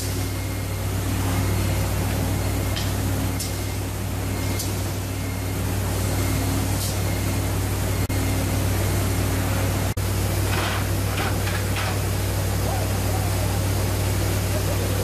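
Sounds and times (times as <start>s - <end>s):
industrial machinery hum: 0.0s - 15.0s.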